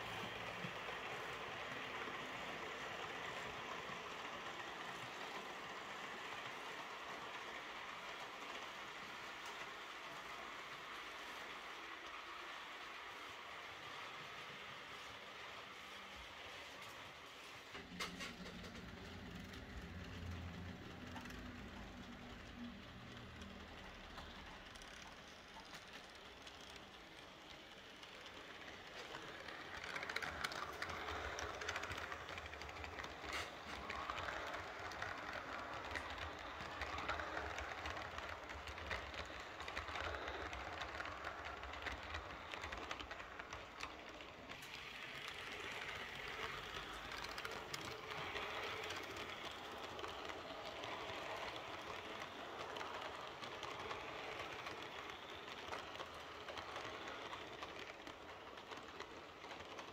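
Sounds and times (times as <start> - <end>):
model train wheels clattering: 0.0 - 59.9.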